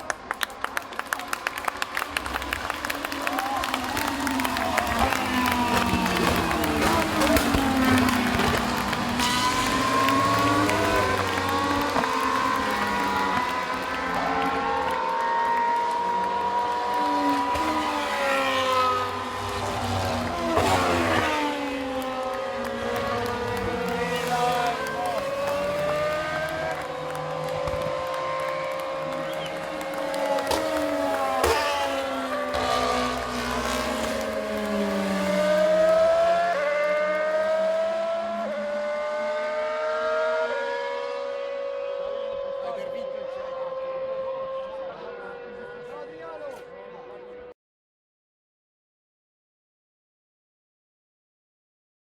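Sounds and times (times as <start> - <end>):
race car passing close: 0.0 - 47.5
racing car engines: 0.0 - 47.6.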